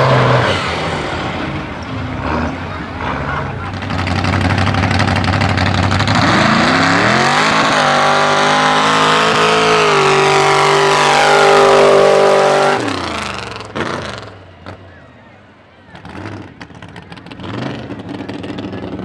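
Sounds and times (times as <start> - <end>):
truck engine revving: 0.0 - 15.0, 15.9 - 19.0.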